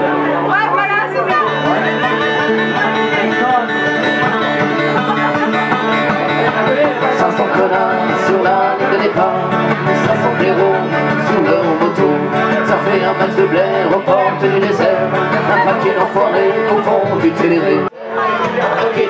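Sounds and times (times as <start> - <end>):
plucked string instruments: 0.0 - 19.0.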